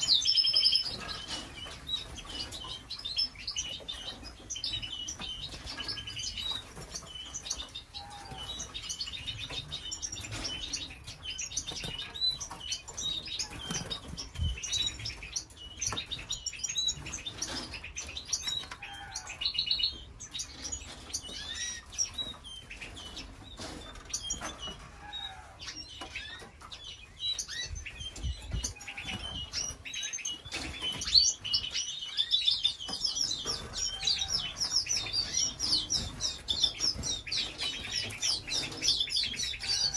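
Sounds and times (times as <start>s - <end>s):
canaries chirping and trilling: 0.0s - 39.9s.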